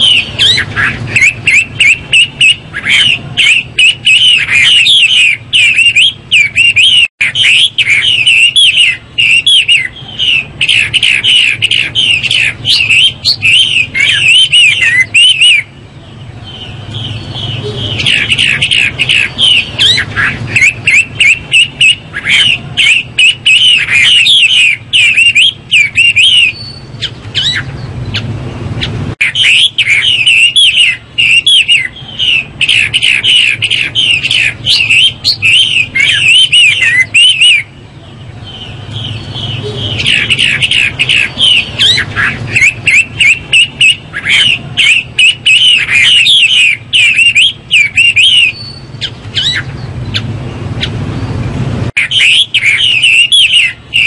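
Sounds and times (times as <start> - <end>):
bird singing whistled phrases: 0.0 - 15.7, 16.4 - 27.9, 29.2 - 37.7, 38.5 - 49.9, 52.0 - 54.0.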